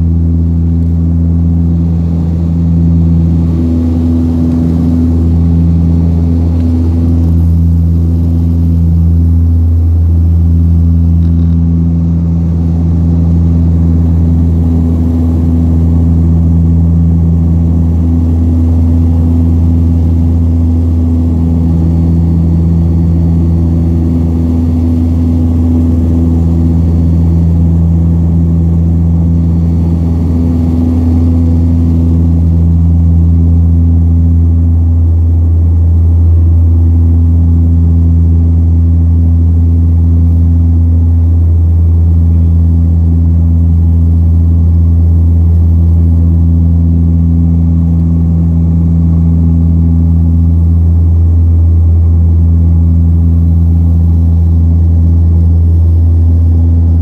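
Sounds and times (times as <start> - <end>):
turboprop engine cabin drone: 0.0 - 57.0.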